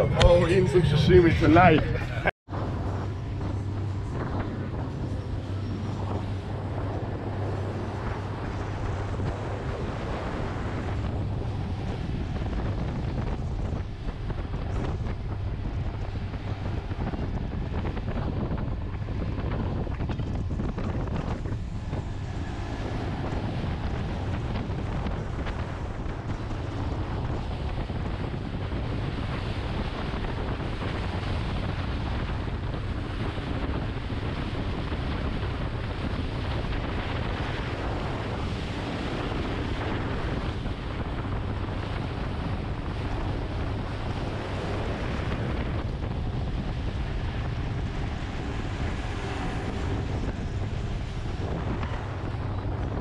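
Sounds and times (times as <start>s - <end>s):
boat engine rumble: 0.0s - 53.0s
wind buffeting microphone: 0.0s - 53.0s.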